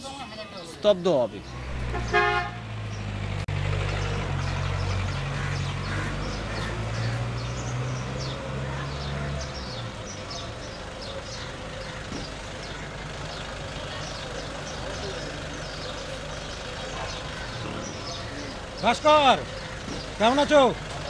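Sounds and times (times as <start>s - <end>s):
birds chirping: 0.0s - 21.0s
vehicle engine humming: 0.0s - 21.0s.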